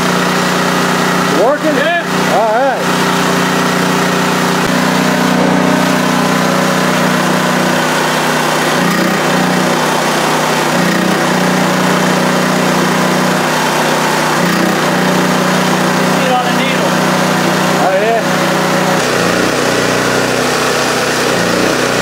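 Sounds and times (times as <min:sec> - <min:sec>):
generator engine running: 0:00.0 - 0:22.0.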